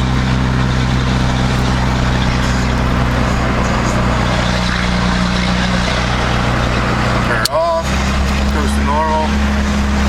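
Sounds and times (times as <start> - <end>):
diesel engine cruising: 0.0 - 10.0
road noise: 0.0 - 10.0.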